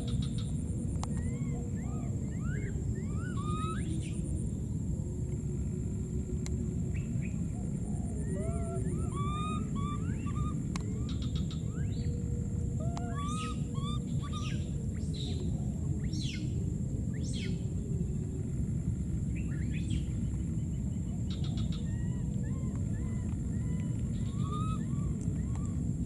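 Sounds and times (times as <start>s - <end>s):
constant high whine: 0.0s - 26.0s
steady low rumble: 0.0s - 26.0s.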